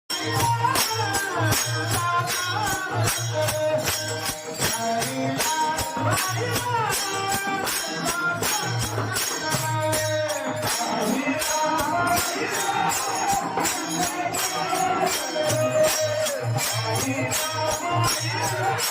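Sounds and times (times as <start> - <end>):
jingling hand percussion: 0.1 - 18.9.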